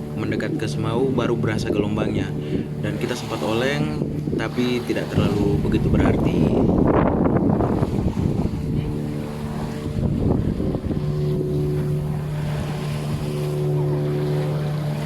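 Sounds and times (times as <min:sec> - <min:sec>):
motorboat engine running: 0:00.0 - 0:15.0
waves washing: 0:00.0 - 0:15.0
wind buffeting microphone: 0:00.0 - 0:15.0.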